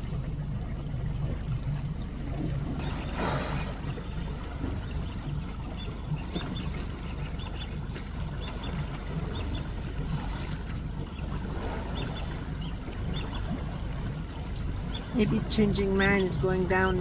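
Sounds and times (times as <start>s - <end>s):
boat motor idling: 0.0s - 17.0s.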